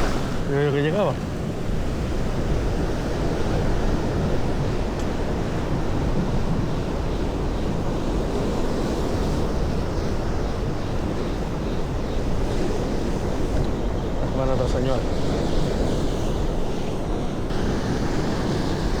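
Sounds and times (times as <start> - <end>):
sea waves washing: 0.0 - 19.0
wind blowing on microphone: 0.0 - 19.0.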